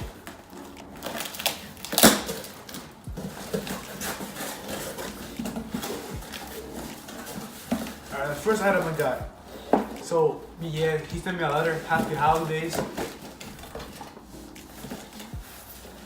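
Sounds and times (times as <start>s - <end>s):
cardboard box crackling: 0.0s - 16.0s.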